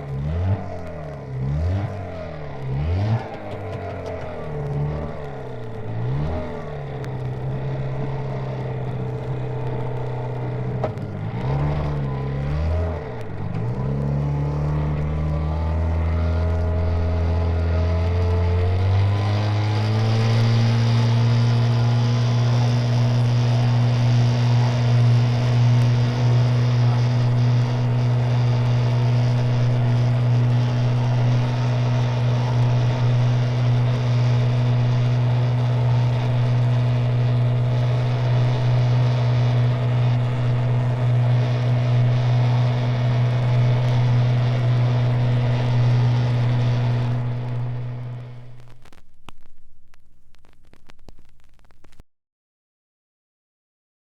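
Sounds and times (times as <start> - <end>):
engine revving: 0.0 - 48.8.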